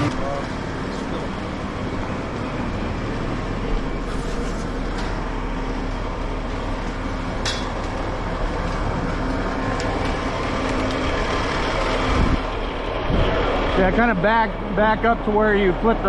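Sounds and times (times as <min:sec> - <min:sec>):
concrete mixer truck running: 0:00.0 - 0:16.0.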